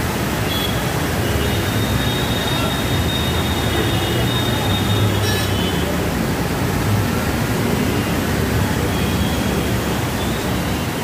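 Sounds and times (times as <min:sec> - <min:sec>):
heavy rain and floodwater rushing: 0:00.0 - 0:11.0.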